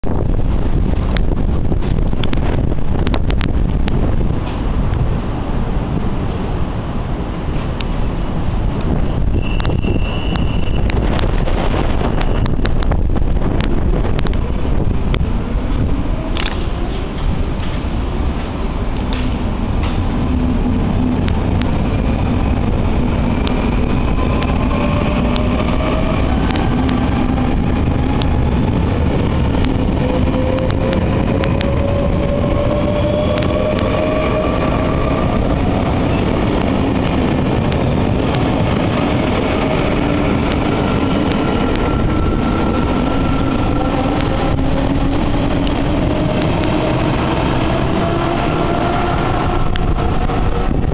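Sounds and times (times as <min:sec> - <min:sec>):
low rumble of train: 0:00.0 - 0:50.9.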